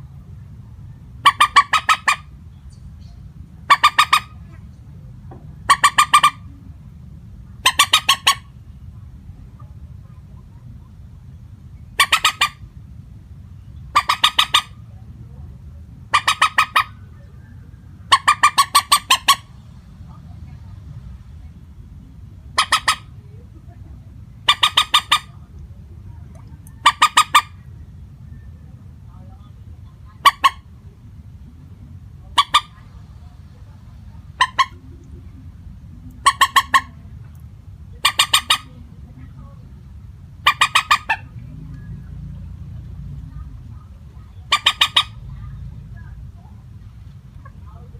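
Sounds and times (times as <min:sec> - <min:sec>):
moorhen calling: 0:00.0 - 0:47.9
steady low hum: 0:00.0 - 0:47.9.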